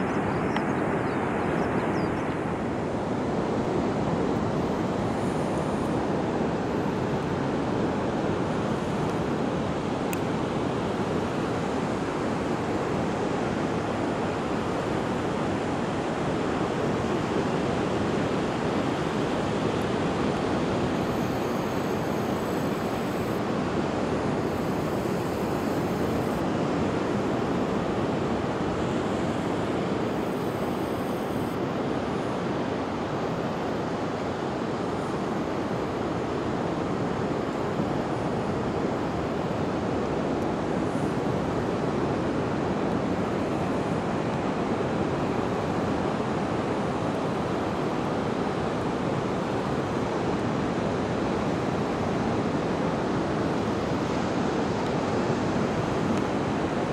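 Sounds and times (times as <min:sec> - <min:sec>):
wind: 0:00.0 - 0:56.9.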